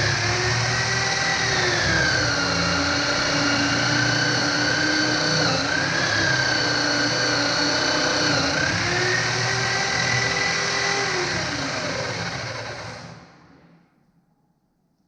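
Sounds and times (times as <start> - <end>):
electric drill motor whine: 0.0 - 13.8.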